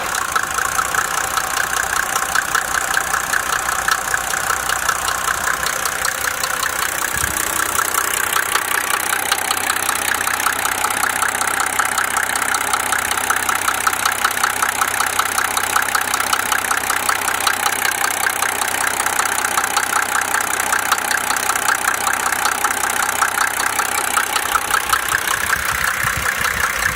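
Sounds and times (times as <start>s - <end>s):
diesel engine knocking: 0.0s - 26.9s.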